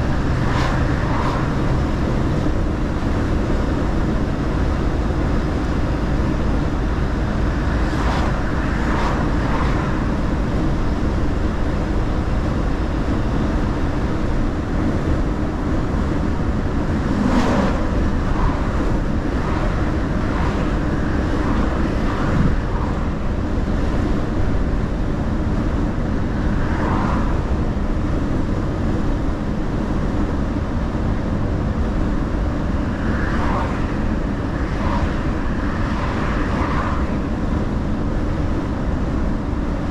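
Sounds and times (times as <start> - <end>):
truck driving at speed: 0.0 - 39.9.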